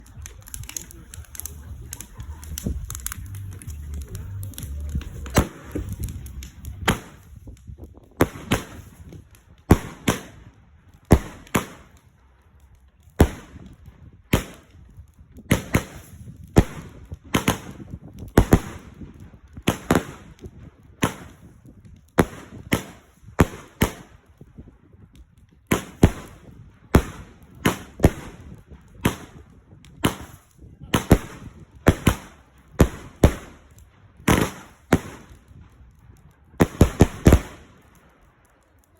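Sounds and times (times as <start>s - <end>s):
fireworks bangs: 0.0s - 12.0s, 13.1s - 24.2s, 25.7s - 35.8s, 36.5s - 38.1s.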